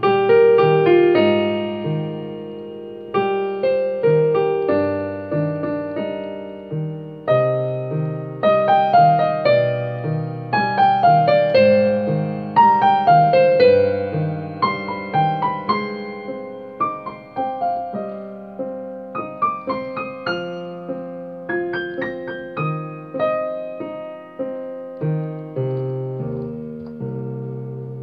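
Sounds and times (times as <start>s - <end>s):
solo piano melody: 0.0s - 28.0s.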